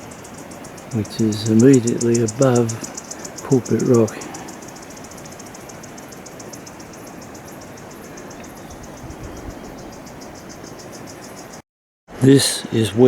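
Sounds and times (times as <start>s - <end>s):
insects chirring: 0.0s - 11.6s
steady background hiss: 0.0s - 13.0s.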